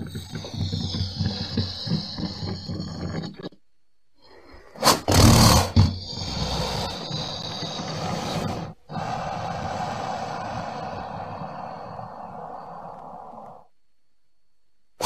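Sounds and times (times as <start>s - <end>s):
crocodile harsh call: 0.0s - 3.5s, 4.3s - 13.7s
quiet steady noise: 0.0s - 15.0s.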